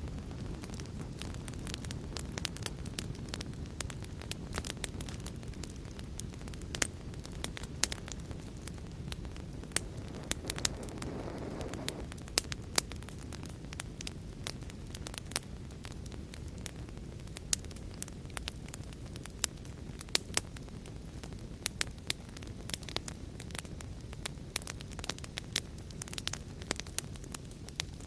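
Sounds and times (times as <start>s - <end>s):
fire pops and snaps: 0.0s - 28.0s
wood fire crackling: 0.0s - 28.0s.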